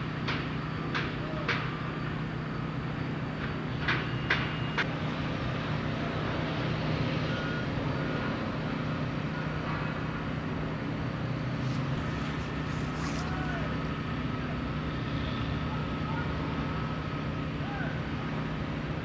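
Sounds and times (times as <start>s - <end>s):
heavy machinery engine hum: 0.0s - 19.0s.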